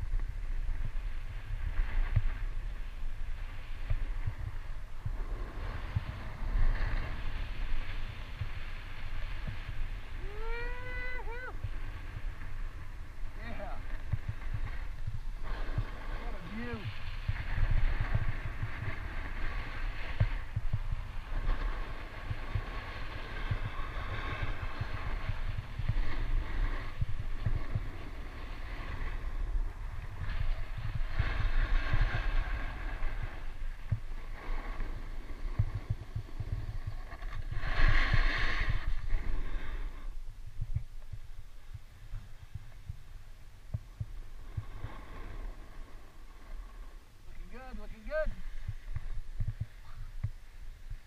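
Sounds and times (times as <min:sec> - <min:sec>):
skis scraping over snow: 0:00.0 - 0:51.0
wind buffeting microphone: 0:00.0 - 0:51.0.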